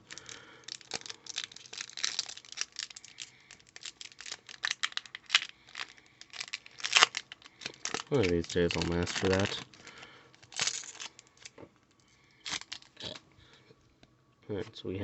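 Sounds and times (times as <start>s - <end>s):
cards and packaging crinkling: 0.0s - 13.2s.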